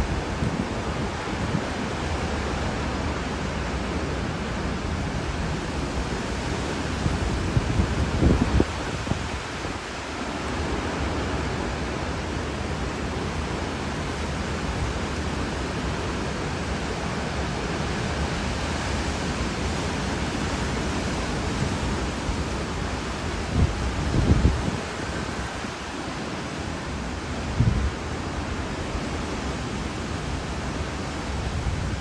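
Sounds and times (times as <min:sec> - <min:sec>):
hurricane wind and rain: 0:00.0 - 0:32.0.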